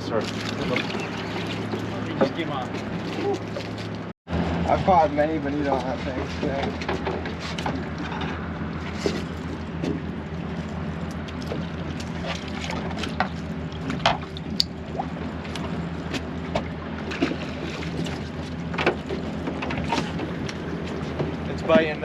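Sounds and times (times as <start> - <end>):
boat engine humming: 0.0 - 22.0
water noise: 0.0 - 22.0.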